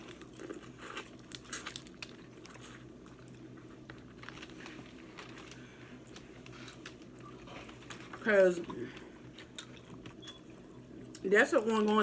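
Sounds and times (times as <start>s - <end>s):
soft chewing: 0.0s - 11.2s.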